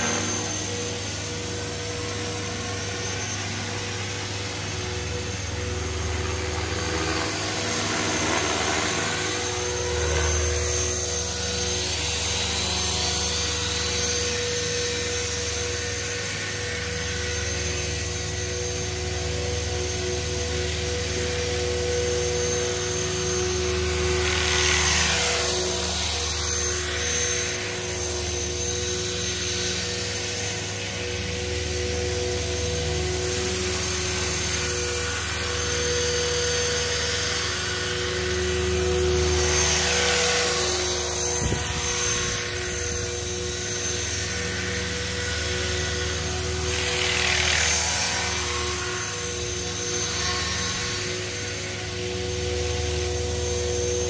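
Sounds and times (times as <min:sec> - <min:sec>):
rc helicopter motor whine: 0:00.0 - 0:54.0
rotor blades humming: 0:00.0 - 0:54.0.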